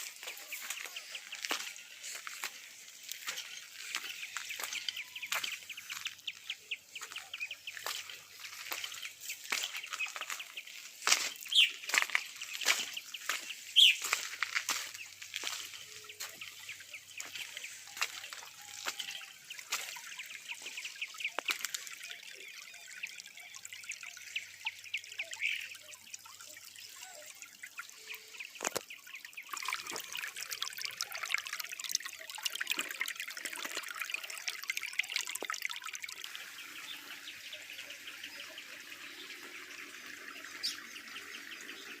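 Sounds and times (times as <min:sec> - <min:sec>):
water trickling over spillway: 0:00.0 - 0:42.0.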